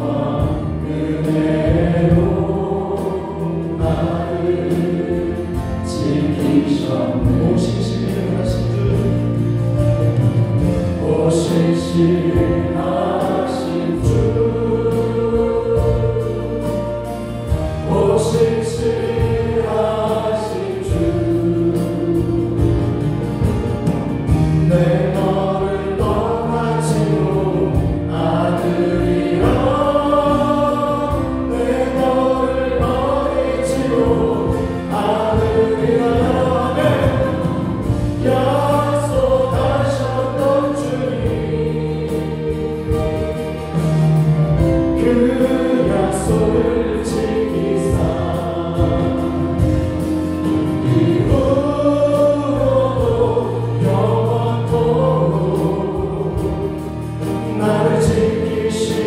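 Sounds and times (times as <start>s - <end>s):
group singing gospel song: 0.0s - 59.0s
live band playing: 0.0s - 59.0s.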